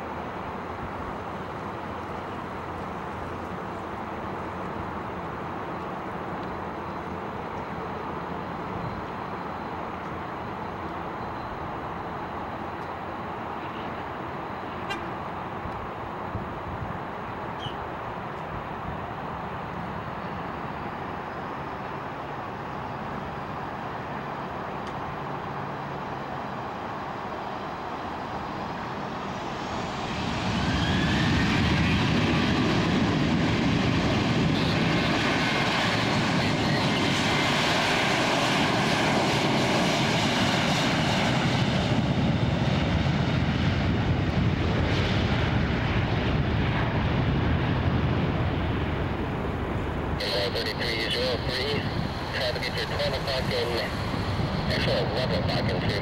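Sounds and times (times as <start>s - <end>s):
jet engines roaring on takeoff: 0.0s - 56.0s
jet engine whine spooling up: 0.2s - 14.8s, 15.4s - 56.0s.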